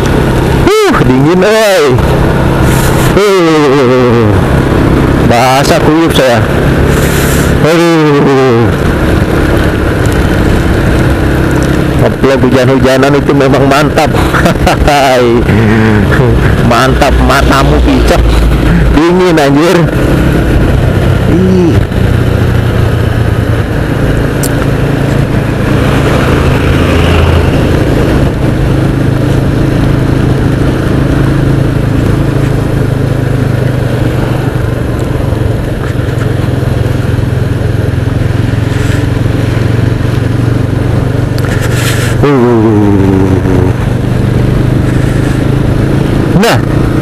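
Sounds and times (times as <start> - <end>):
motorcycle engine droning: 0.0 - 47.0
wind and road noise: 0.0 - 47.0.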